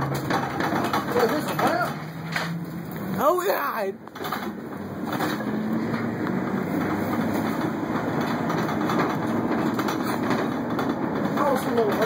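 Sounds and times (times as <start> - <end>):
small clatters: 0.0 - 3.2, 4.0 - 12.0
truck rumbling on road: 0.0 - 12.0.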